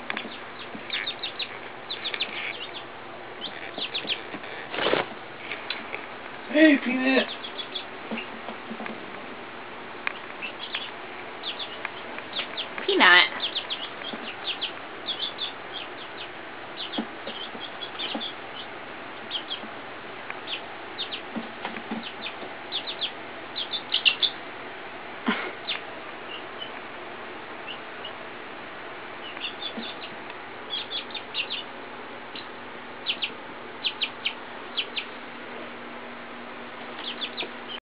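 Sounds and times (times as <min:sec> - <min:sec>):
chicks peeping: 0:00.0 - 0:35.3, 0:36.9 - 0:37.8.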